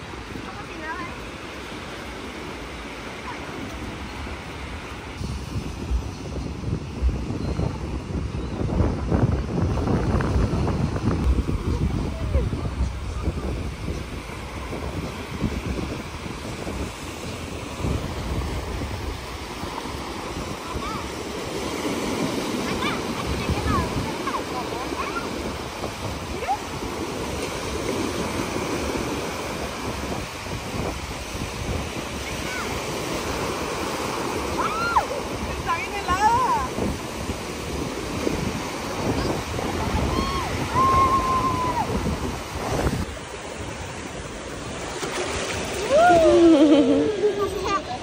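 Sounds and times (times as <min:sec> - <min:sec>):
surf breaking on beach: 0:00.0 - 0:48.0
wind on microphone: 0:00.0 - 0:48.0.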